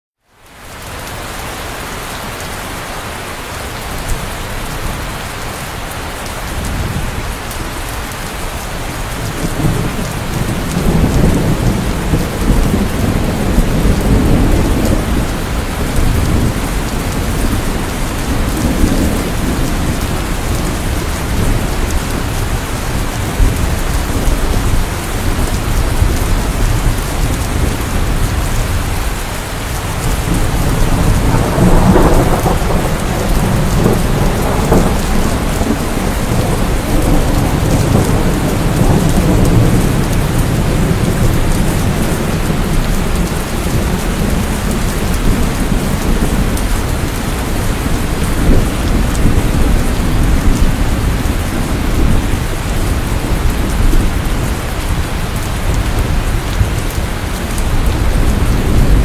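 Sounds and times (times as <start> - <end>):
steady rain falling: 0.2 - 59.0
thunder rumbling: 3.8 - 59.0.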